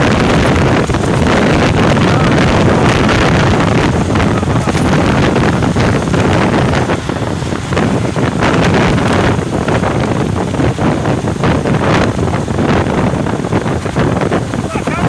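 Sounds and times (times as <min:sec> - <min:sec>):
motorcycle road noise: 0:00.0 - 0:15.0
wind buffeting microphone: 0:00.0 - 0:15.0.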